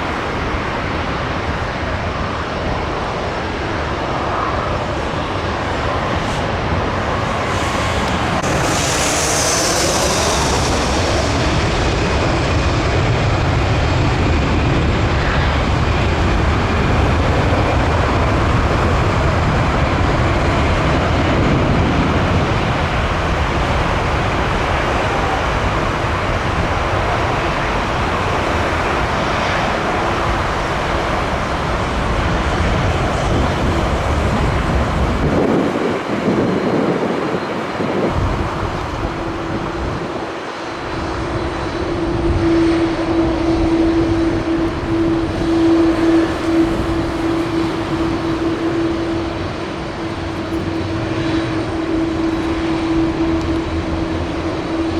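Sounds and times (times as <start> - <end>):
jet engines roaring: 0.0 - 54.9
steady engine tone: 5.8 - 35.6, 36.2 - 54.9.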